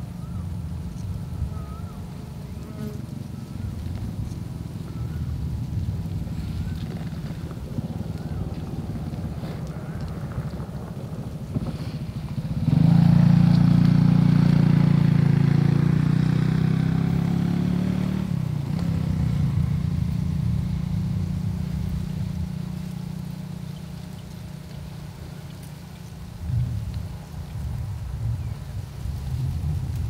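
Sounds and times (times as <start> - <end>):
vehicle engine passing by: 0.0 - 30.0.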